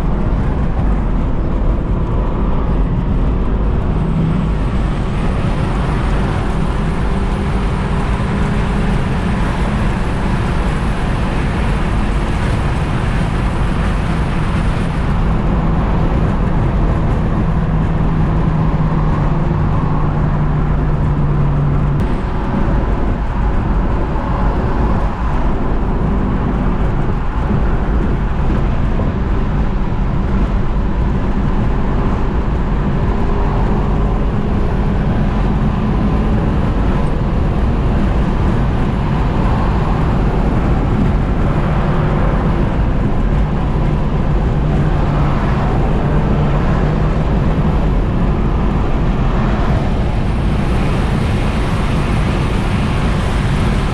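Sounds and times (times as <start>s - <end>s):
car engine drone: 0.0s - 53.9s
road noise: 0.0s - 53.9s.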